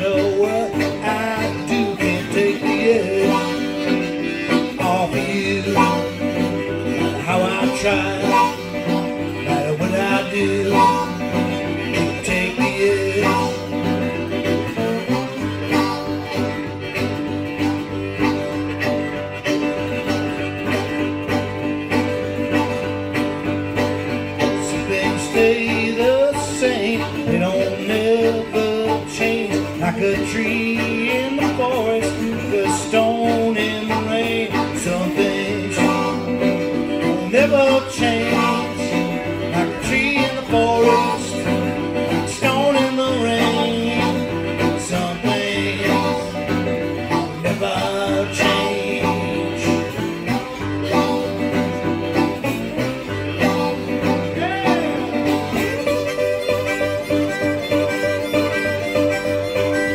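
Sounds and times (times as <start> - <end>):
driving blues guitar: 0.0 - 59.9
harmonica wailing: 0.0 - 59.9.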